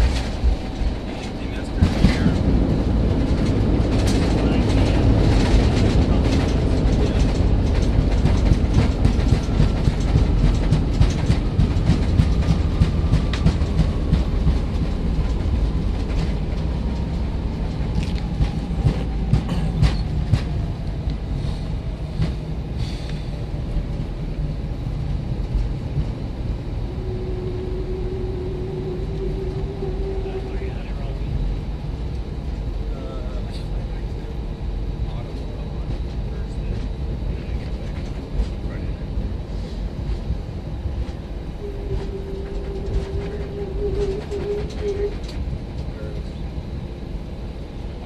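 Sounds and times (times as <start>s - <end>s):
faint engine whine: 0.0s - 48.0s
steady hum: 0.0s - 48.0s.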